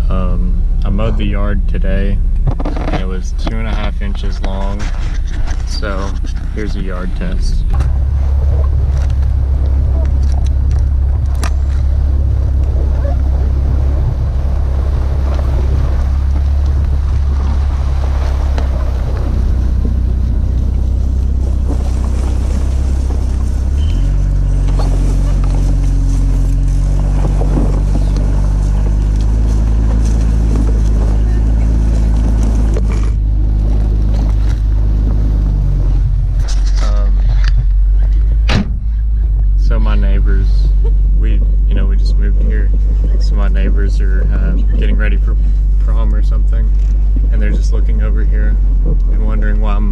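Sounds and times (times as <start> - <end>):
car engine droning: 0.0 - 49.9
tyre and wind noise: 0.0 - 49.9.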